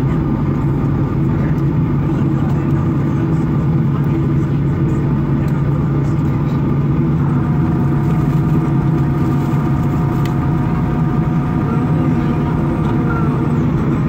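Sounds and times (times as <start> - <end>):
jet engines idling hum: 0.0 - 14.0.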